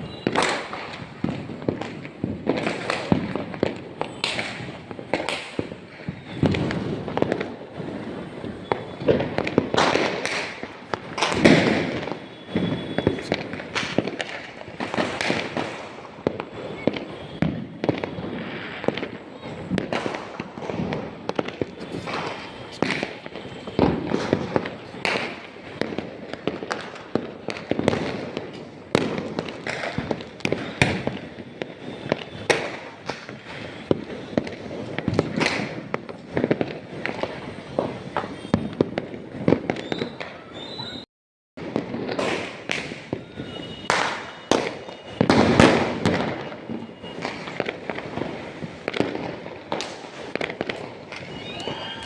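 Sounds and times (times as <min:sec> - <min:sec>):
firecrackers crackling: 0:00.0 - 0:41.0, 0:41.6 - 0:52.0
fireworks bangs: 0:00.0 - 0:41.0, 0:41.6 - 0:52.0.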